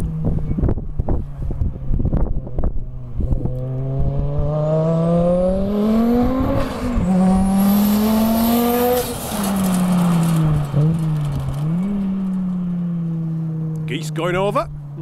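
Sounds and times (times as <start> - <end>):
wind buffeting microphone: 0.0 - 12.3
car engine accelerating: 0.0 - 15.0.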